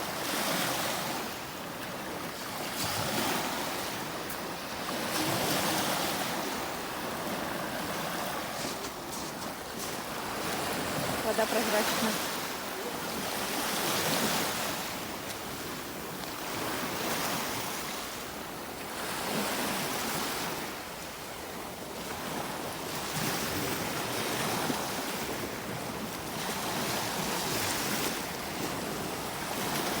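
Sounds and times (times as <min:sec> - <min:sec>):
sea waves washing onto shore: 0:00.0 - 0:30.0
wind: 0:00.0 - 0:30.0.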